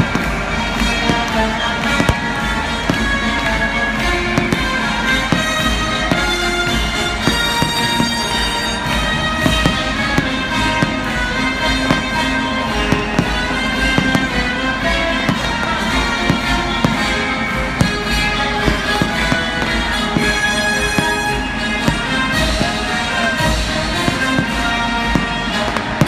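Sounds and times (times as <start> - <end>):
fireworks bangs and crackles: 0.0 - 26.0
loud music over loudspeakers: 0.0 - 26.0.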